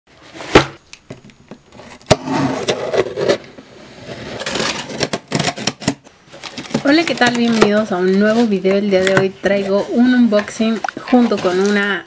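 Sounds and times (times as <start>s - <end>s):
cardboard scraping and rubbing: 1.7s - 11.9s.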